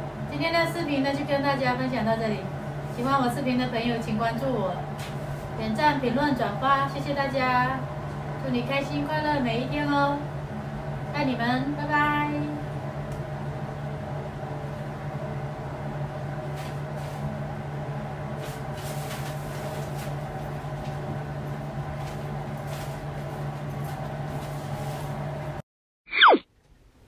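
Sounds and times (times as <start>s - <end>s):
electrical machinery hum: 0.0s - 25.6s.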